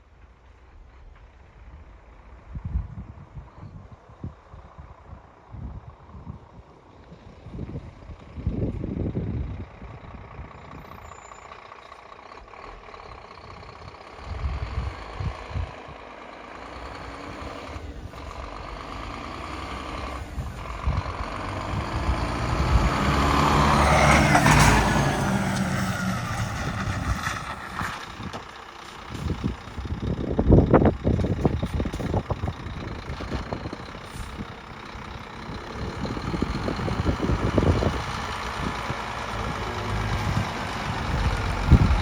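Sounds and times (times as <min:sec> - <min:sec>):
diesel truck engine running: 0:00.1 - 0:42.0.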